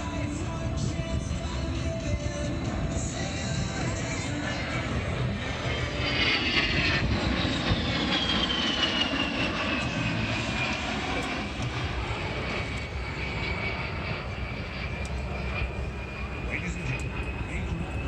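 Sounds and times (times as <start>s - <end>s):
broad jet rumble: 0.0s - 18.0s
jet engine whine flying past: 0.0s - 18.0s.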